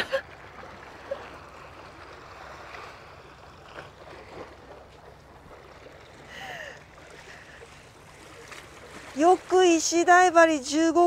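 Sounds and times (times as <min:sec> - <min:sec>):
small waves washing against seawall: 0:00.0 - 0:11.0.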